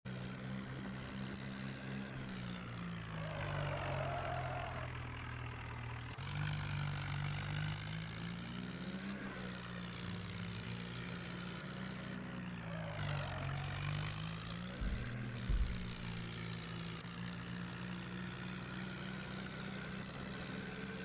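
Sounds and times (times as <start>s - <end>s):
tractor diesel engine running: 0.1s - 21.0s.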